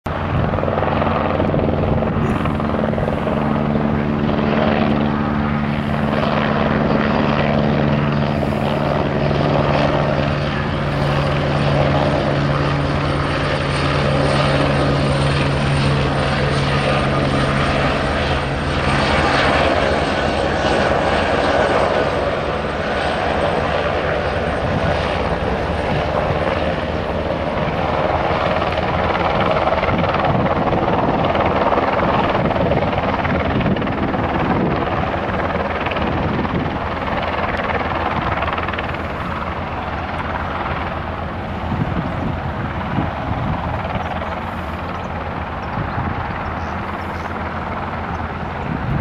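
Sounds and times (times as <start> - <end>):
helicopter hovering: 0.1 - 49.0.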